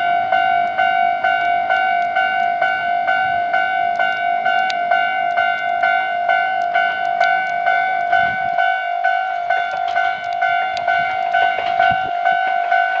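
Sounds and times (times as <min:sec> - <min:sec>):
level crossing warning bell: 0:00.0 - 0:13.0
train wheels clicking over rail joints: 0:00.0 - 0:13.0.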